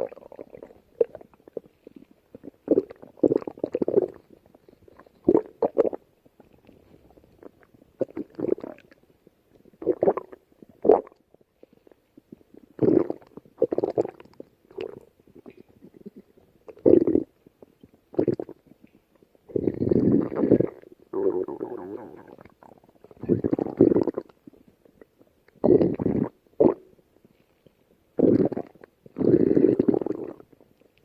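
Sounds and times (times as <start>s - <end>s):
stomach growling: 0.0s - 27.0s, 27.6s - 31.0s.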